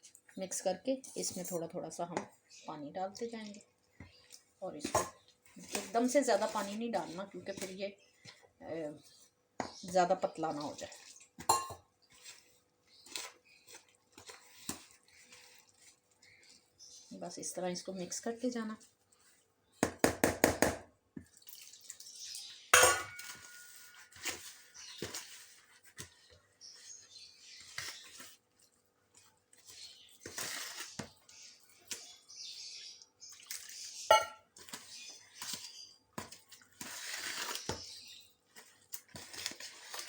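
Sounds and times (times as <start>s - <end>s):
plaster being stirred: 3.0s - 19.8s, 21.1s - 40.0s.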